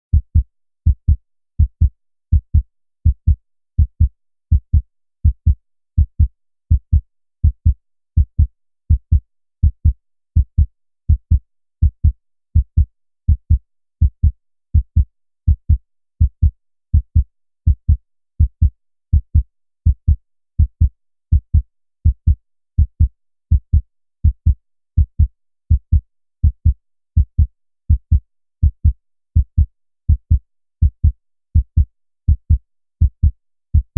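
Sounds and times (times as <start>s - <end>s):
heartbeat thumps: 0.1s - 33.9s.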